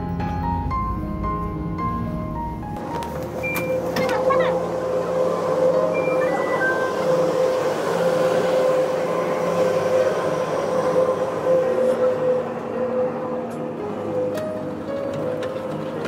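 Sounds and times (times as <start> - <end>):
subway train rumbling past: 0.0 - 16.0.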